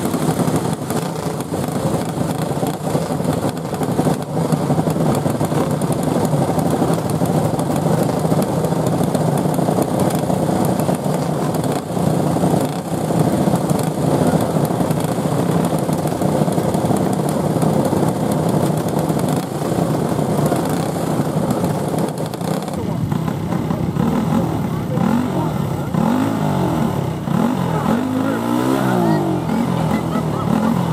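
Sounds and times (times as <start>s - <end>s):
go-kart engines racing: 0.0s - 30.9s.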